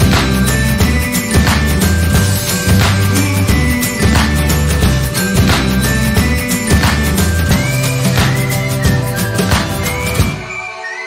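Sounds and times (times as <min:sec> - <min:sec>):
music with low bass line: 0:00.0 - 0:10.5.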